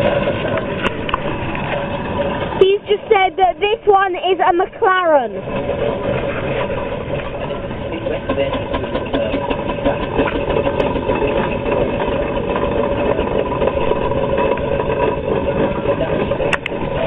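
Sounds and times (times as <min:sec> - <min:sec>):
steam traction engine driving: 0:00.0 - 0:17.0.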